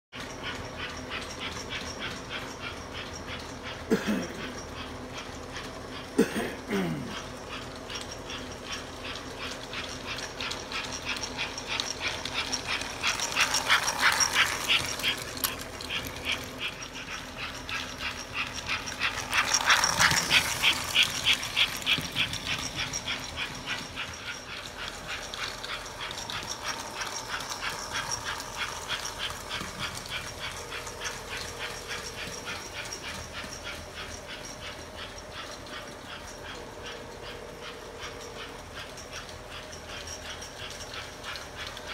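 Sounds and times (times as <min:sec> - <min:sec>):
faint motor hum: 0:00.2 - 0:41.9
toy train clicking on track: 0:00.2 - 0:41.9.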